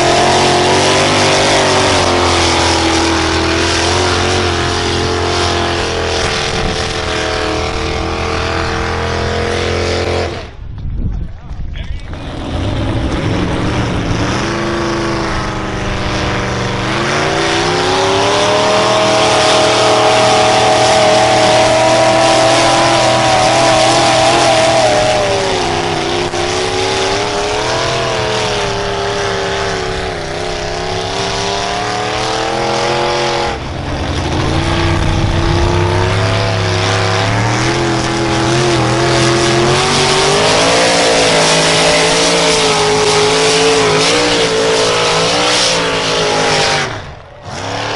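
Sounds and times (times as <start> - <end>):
engine working hard under load: 0.0 - 47.9.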